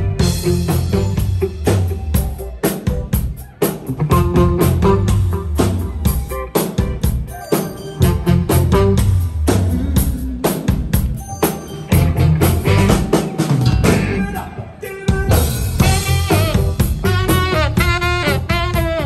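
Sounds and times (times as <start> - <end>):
heavy bass line: 0.0 - 2.5, 4.0 - 7.3, 8.0 - 11.2, 11.9 - 14.6, 15.2 - 19.0
drum kit beat: 0.0 - 19.0
live pop band playing: 0.0 - 19.0.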